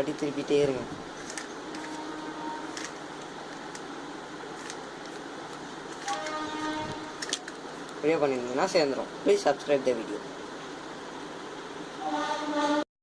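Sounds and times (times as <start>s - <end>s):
steady background hiss: 0.0s - 12.8s.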